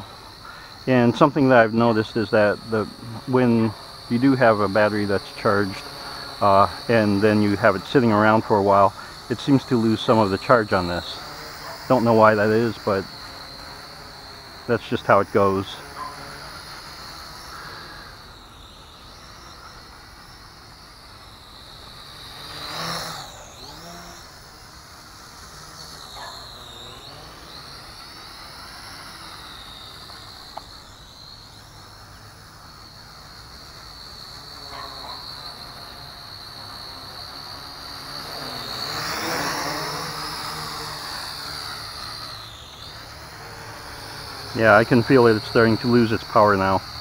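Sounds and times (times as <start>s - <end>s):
toy drone motors whining: 0.0s - 47.0s.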